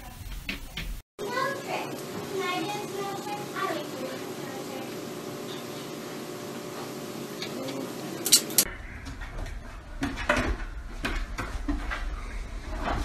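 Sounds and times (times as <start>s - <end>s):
steady hum: 1.2s - 13.0s.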